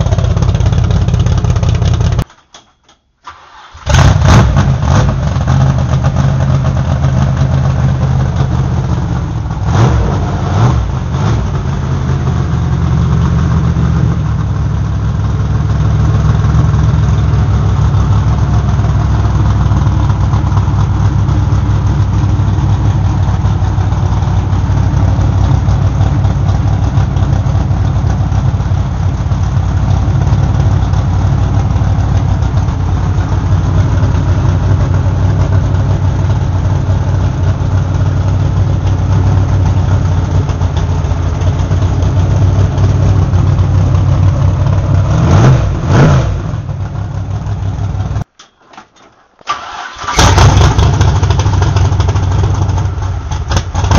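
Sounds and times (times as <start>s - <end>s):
car engine idling and revving: 0.0s - 2.3s, 3.7s - 48.3s, 49.6s - 53.9s.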